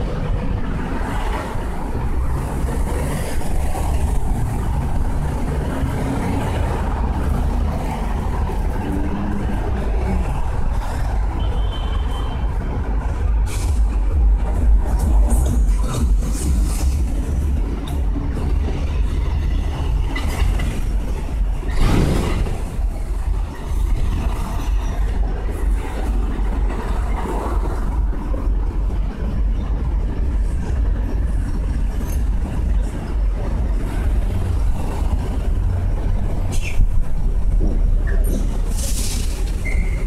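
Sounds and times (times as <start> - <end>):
city traffic rumble: 0.0 - 40.0.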